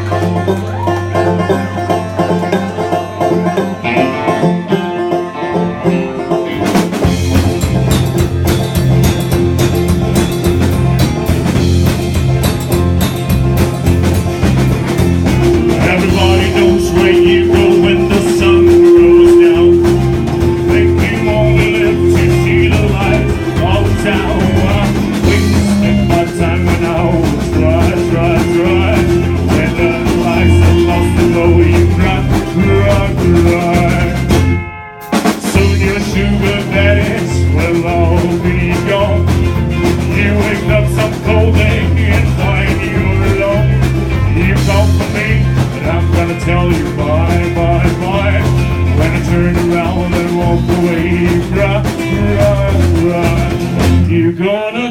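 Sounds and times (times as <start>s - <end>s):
live country band playing: 0.0s - 54.9s.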